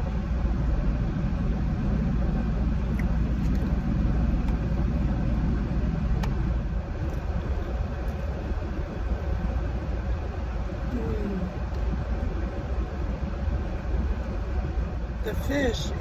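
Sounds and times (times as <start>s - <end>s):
air conditioning running: 0.0s - 16.0s
car engine idling: 0.0s - 16.0s.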